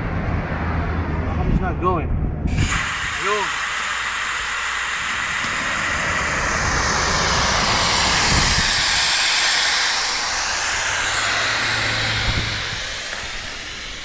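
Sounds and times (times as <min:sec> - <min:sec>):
air hissing out of a tire: 0:02.5 - 0:14.0.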